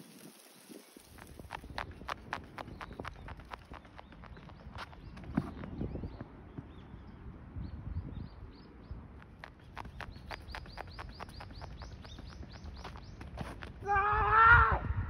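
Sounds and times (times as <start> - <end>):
small bird chirping: 0.1 - 13.8.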